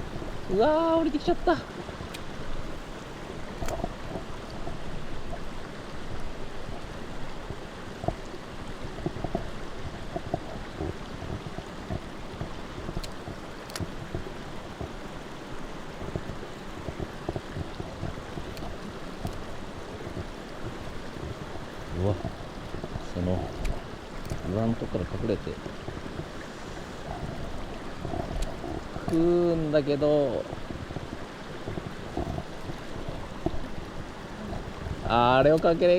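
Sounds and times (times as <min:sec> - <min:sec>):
stream water rushing: 0:00.0 - 0:35.9.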